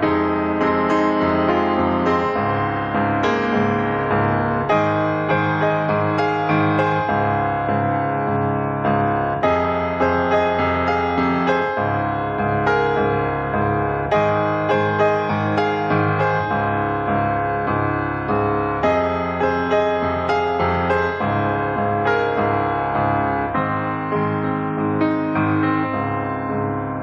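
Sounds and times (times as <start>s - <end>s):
piano piece: 0.0s - 27.0s.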